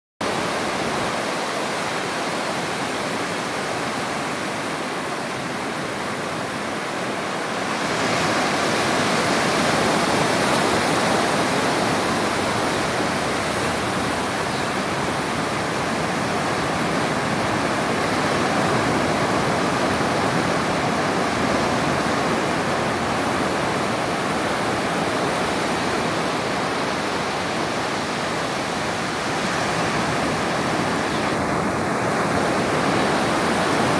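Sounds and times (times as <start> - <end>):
ocean surf breaking on beach: 0.2 - 33.9.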